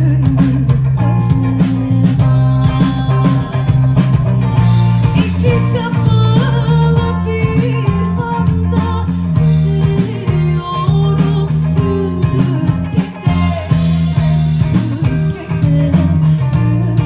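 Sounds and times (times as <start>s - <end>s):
bass guitar: 0.0s - 17.0s
drum kit: 0.0s - 17.0s
electric guitar: 0.0s - 17.0s
woman singing into a microphone: 0.0s - 17.0s.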